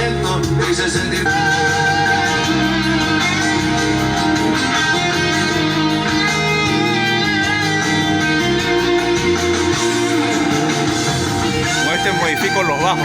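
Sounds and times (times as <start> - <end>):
song with guitars over speakers: 0.0 - 13.0.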